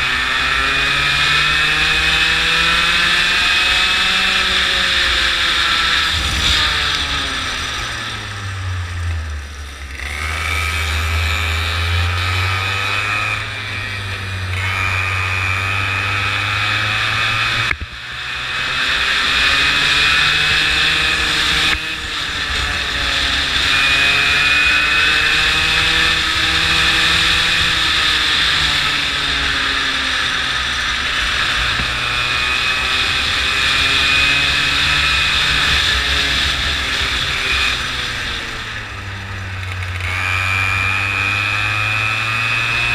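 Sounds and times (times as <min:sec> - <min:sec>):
go-kart engine: 0:00.0 - 0:42.9.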